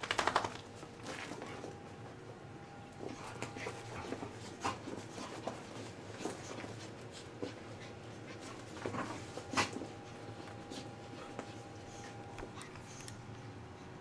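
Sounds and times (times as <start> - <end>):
paws scuffling and scratching: 0.0 - 13.5.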